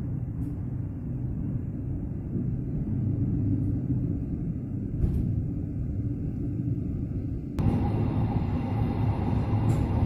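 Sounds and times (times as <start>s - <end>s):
train coach rumbling: 0.0s - 10.0s.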